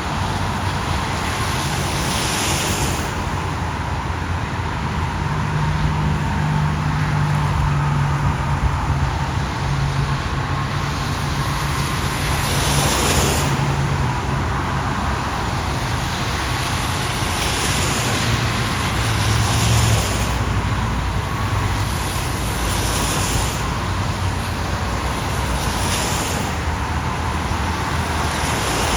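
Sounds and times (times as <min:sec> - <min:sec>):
rush of spray: 0:00.0 - 0:04.6, 0:06.5 - 0:28.9
car engines running: 0:00.0 - 0:28.9
tyres swishing through water: 0:00.0 - 0:28.9.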